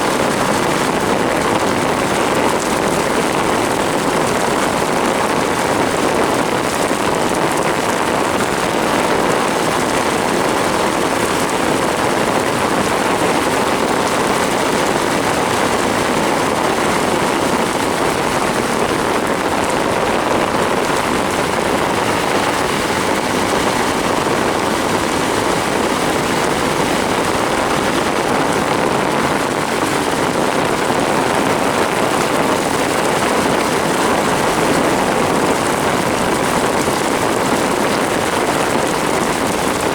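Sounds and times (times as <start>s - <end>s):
torrential rain on vehicle: 0.0s - 39.9s.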